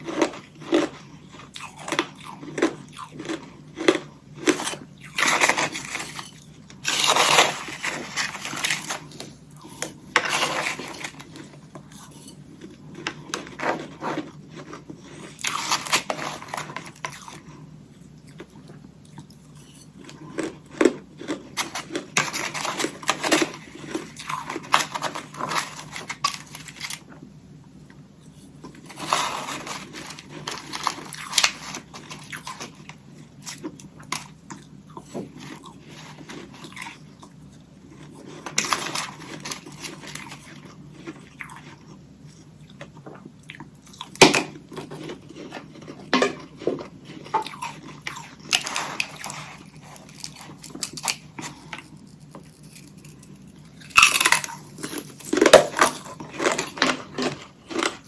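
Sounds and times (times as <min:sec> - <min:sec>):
crunching ice sticks: 0:00.0 - 0:17.6, 0:18.3 - 0:27.2, 0:28.2 - 0:58.0.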